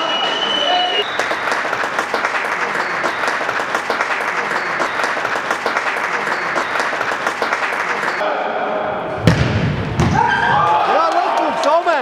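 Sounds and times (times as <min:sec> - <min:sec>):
crowd applauding: 0:00.0 - 0:08.2, 0:10.6 - 0:12.0.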